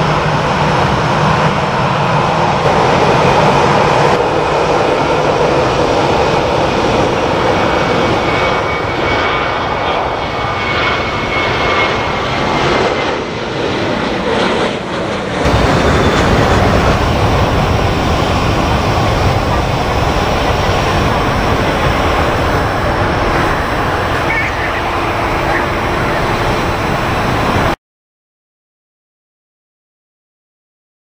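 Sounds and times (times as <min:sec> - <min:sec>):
jet engines rushing: 0:00.0 - 0:27.8.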